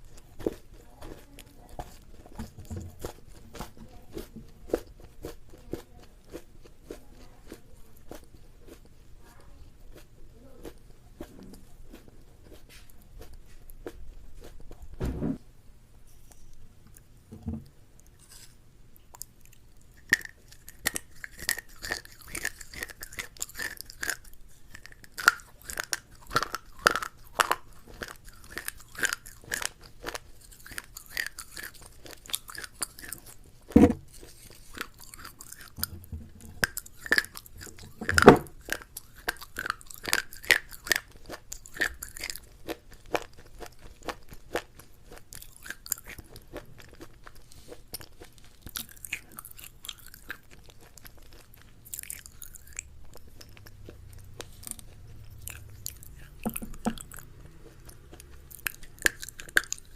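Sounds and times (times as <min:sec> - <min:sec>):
person chewing crunchy food: 0:00.0 - 0:15.0, 0:16.1 - 0:59.9.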